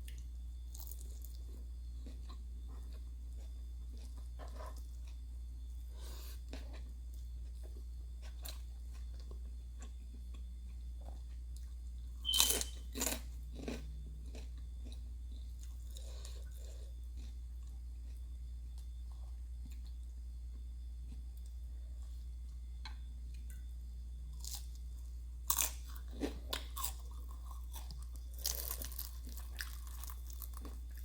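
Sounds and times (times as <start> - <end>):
person chewing crisp food: 0.1 - 5.2, 6.3 - 20.0, 24.3 - 31.0.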